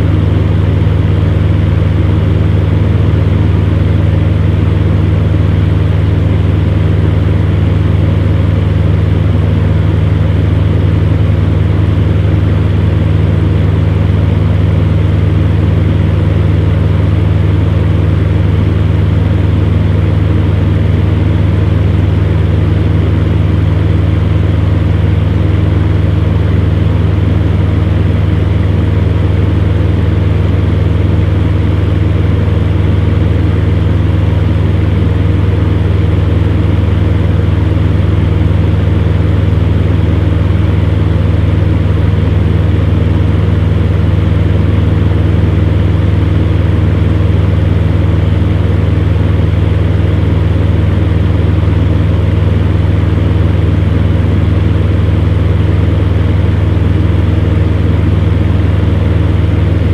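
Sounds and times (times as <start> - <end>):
fan heater running: 0.0 - 59.9.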